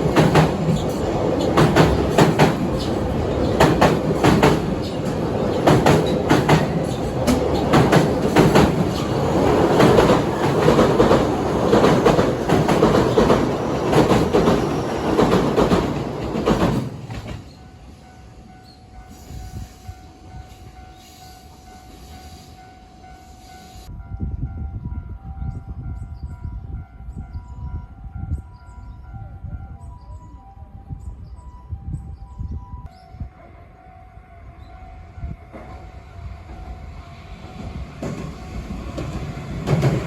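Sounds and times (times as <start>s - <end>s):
train passing with rail noise: 0.0s - 40.0s.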